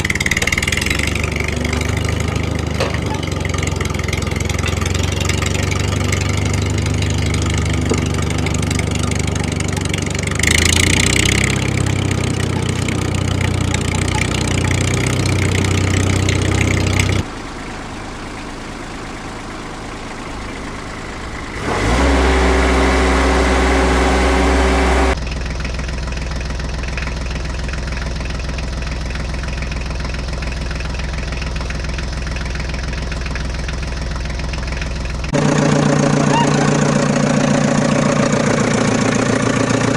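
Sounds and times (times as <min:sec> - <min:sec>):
vehicle engines idling: 0:00.0 - 0:39.9.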